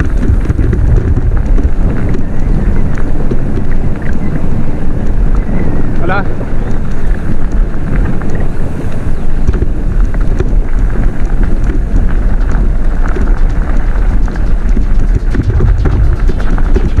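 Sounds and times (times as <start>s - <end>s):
bike clicks and rattles: 0.0s - 17.0s
mountain bike rumbling on dirt: 0.0s - 17.0s
wind buffeting microphone: 0.0s - 17.0s.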